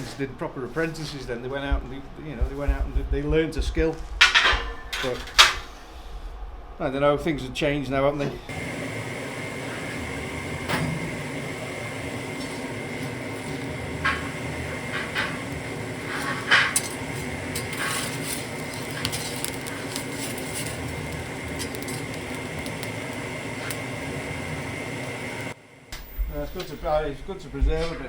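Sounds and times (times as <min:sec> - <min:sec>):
steady hum: 0:01.2 - 0:28.0.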